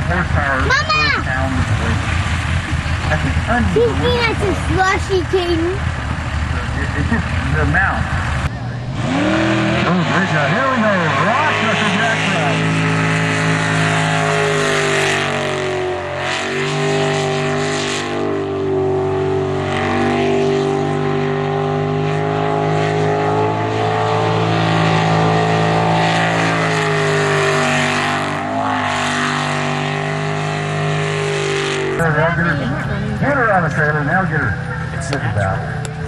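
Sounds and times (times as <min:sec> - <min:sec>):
boat engine running hard: 0:00.0 - 0:36.0.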